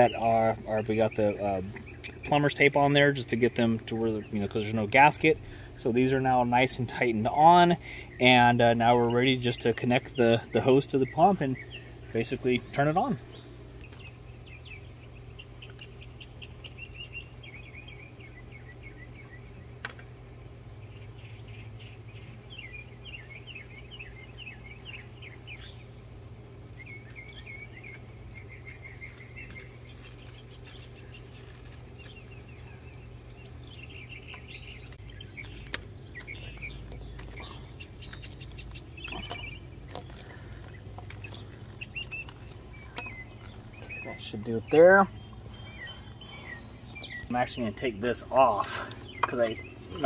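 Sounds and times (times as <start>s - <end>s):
songbirds chirping: 0.0s - 50.0s
steady low hum: 0.0s - 50.0s.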